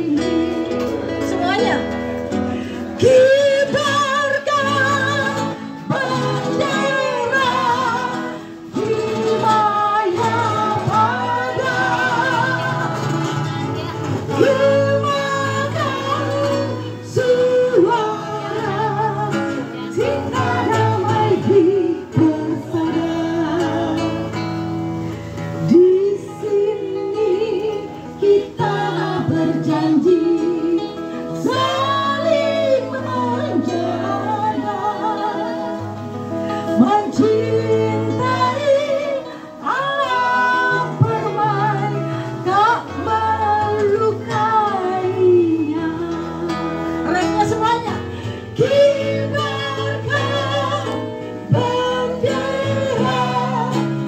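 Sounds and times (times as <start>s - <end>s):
plucked and strummed guitar: 0.0s - 54.0s
woman singing into microphone: 0.0s - 54.0s.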